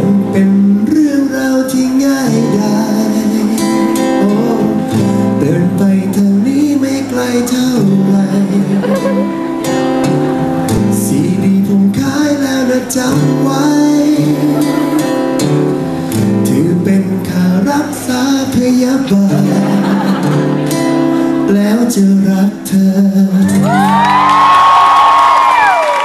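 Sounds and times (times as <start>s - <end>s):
man singing into microphone: 0.0s - 9.5s, 10.8s - 20.2s, 21.2s - 24.1s
acoustic guitar strumming: 0.0s - 23.8s.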